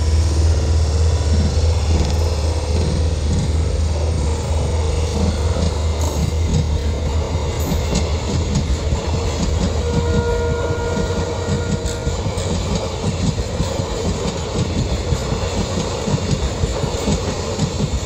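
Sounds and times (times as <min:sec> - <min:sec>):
train coaches rumbling past: 0:00.0 - 0:18.0.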